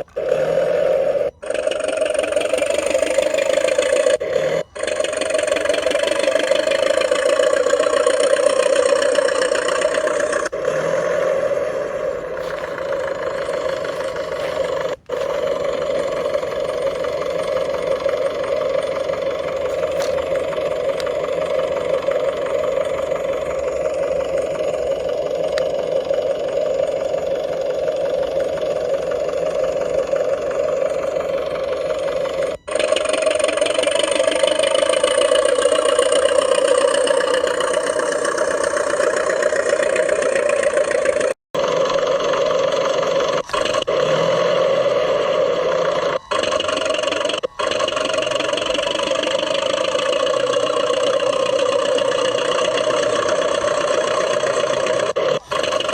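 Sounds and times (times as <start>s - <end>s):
toy bulldozer mechanical drive: 0.0s - 55.9s.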